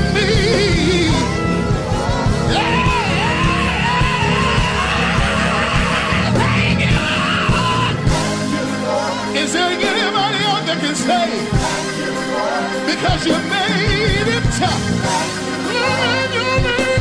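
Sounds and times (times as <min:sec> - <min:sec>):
band with steady low beat: 0:00.0 - 0:17.0
person singing gospel with vibrato: 0:00.0 - 0:17.0.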